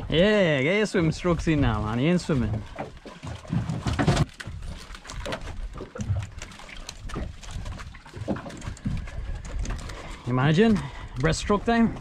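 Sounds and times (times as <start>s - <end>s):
wind and water against hull: 0.0s - 12.0s.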